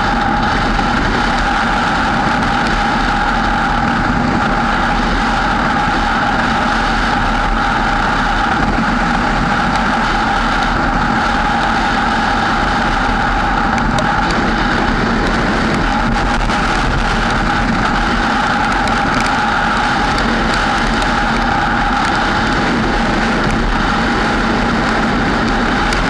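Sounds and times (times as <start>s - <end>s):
muffled vehicle road and engine noise: 0.0s - 26.0s.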